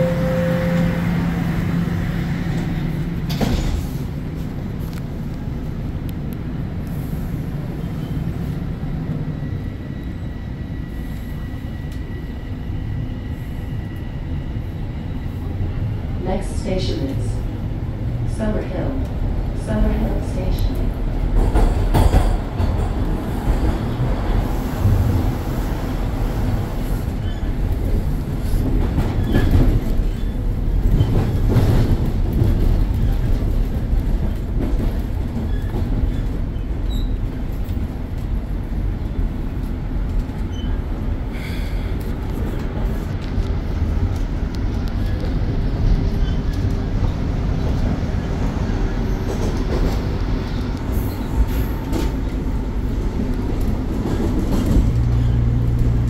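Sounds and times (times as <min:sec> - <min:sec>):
subway wheels rumbling on rails: 0:00.0 - 0:56.0.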